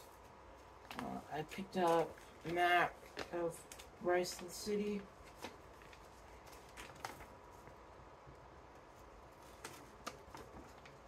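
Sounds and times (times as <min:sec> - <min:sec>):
paper map rustling: 0:00.0 - 0:11.0.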